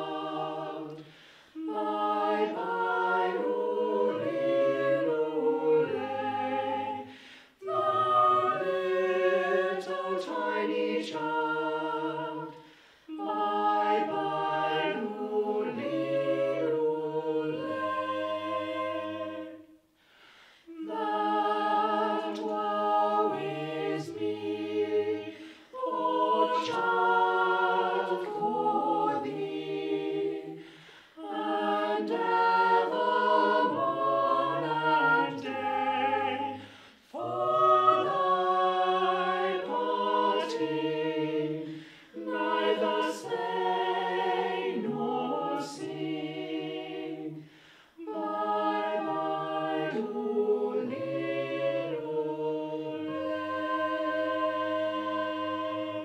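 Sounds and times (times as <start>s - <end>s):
choir singing unaccompanied: 0.0s - 56.0s.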